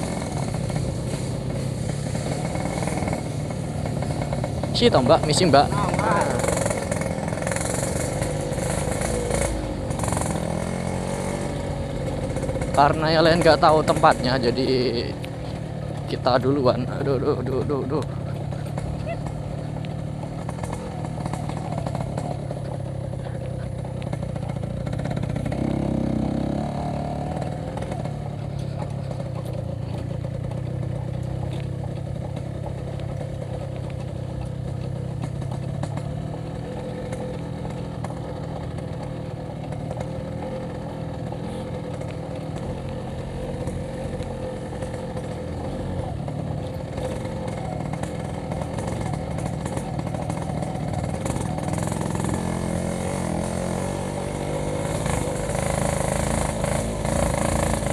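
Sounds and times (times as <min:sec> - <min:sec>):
two-stroke motorcycle engine running: 0:00.0 - 0:57.9.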